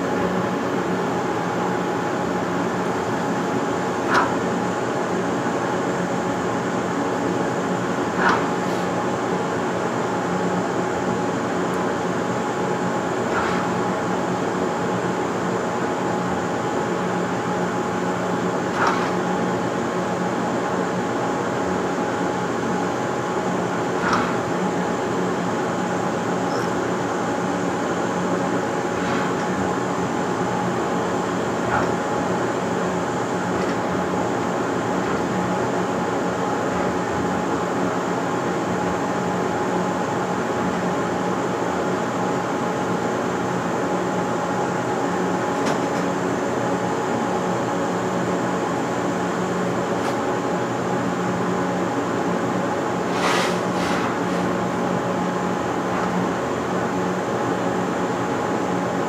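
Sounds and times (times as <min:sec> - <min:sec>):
machine motors humming: 0:00.0 - 0:39.8, 0:44.5 - 0:59.0.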